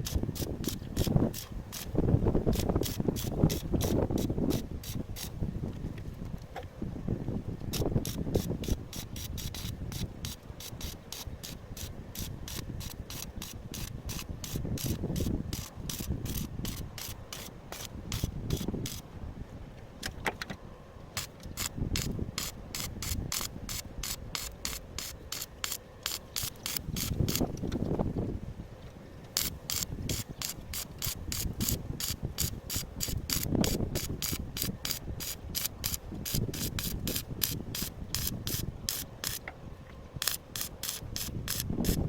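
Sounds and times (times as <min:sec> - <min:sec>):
rapid mechanical clicking: 0:00.0 - 0:05.4, 0:07.7 - 0:19.0, 0:21.2 - 0:27.8, 0:29.3 - 0:39.5, 0:40.2 - 0:42.0.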